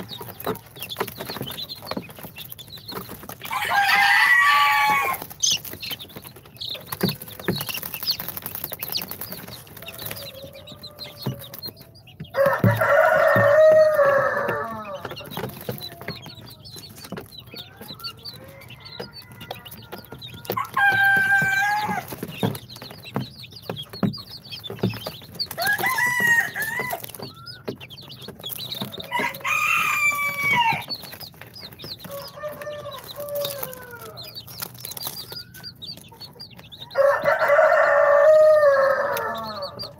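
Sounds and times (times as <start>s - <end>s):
chicks peeping: 0.0s - 39.9s
adult chicken calling: 2.9s - 16.6s, 17.4s - 23.0s, 24.7s - 31.2s, 31.9s - 39.9s.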